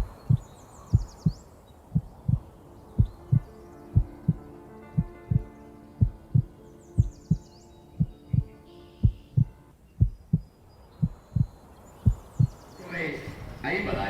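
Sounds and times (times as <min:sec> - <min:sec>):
heartbeat thumps: 0:00.0 - 0:12.6
faint high chirps: 0:00.0 - 0:13.7.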